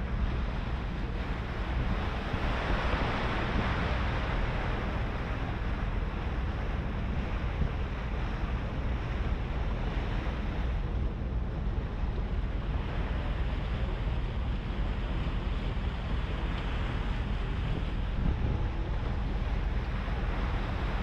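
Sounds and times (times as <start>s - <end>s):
low steady rumble: 0.0s - 21.0s
water washing past hull: 0.0s - 21.0s
wind on microphone: 0.0s - 21.0s.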